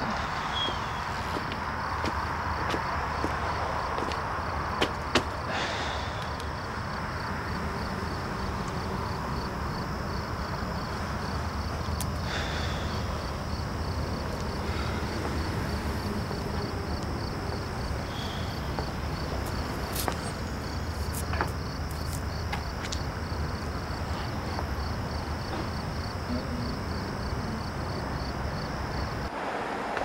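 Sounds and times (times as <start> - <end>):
insect chirping: 0.0 - 29.3.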